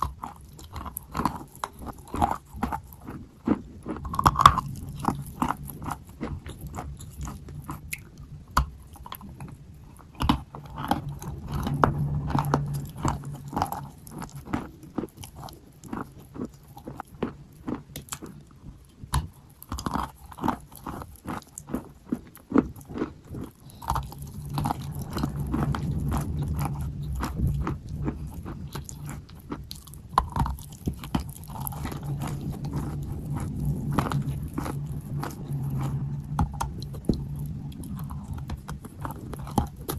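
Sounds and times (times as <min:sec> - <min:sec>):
low hum: 0:00.0 - 0:21.2, 0:22.8 - 0:39.9
chalk crunching being chewed: 0:00.0 - 0:39.9.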